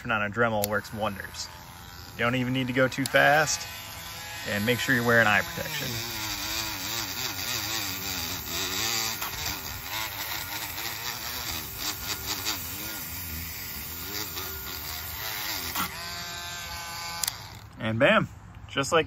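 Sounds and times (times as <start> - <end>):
rotary tool wire brush whining: 0.0 - 18.0.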